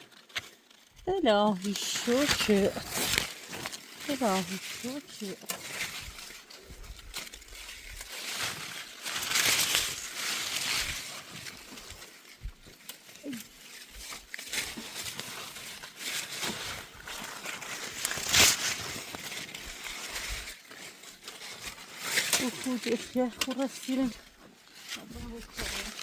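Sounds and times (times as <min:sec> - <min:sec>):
leaves and branches rustling: 0:00.0 - 0:26.0
loud sharp crackle: 0:00.0 - 0:26.0.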